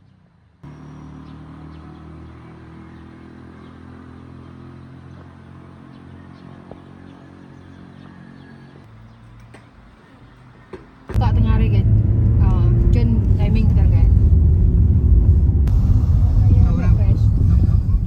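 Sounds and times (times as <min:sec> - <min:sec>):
vehicle engine running: 0:00.6 - 0:09.2, 0:11.1 - 0:18.0.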